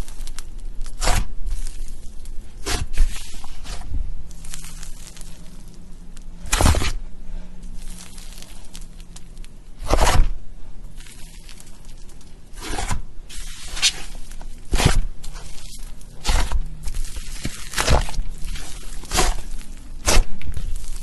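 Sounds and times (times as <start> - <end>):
slime crackling: 0.0 - 7.0, 7.6 - 10.3, 10.9 - 21.0
squishy slime crackles: 0.0 - 7.0, 7.6 - 10.3, 10.9 - 21.0.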